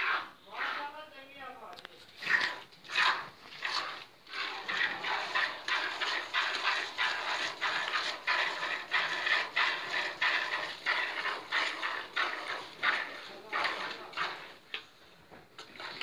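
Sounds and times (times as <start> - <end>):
milk squirting into plastic bucket: 2.1 - 16.0.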